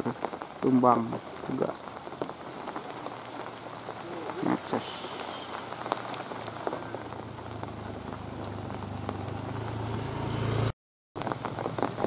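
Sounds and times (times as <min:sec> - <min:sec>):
raindrops ticking close by: 0:00.0 - 0:12.0
steady rain falling: 0:00.0 - 0:12.0.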